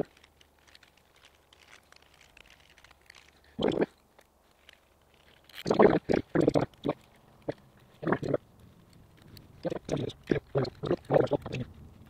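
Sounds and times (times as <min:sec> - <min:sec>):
crunch or scrape: 0:00.0 - 0:12.0
gloved hands handling wire: 0:00.0 - 0:12.0
small clicks and rustles: 0:00.0 - 0:12.0.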